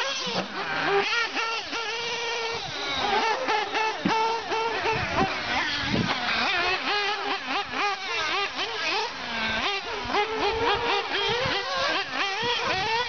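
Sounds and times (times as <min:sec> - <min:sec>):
rc car motors revving: 0:00.0 - 0:13.0.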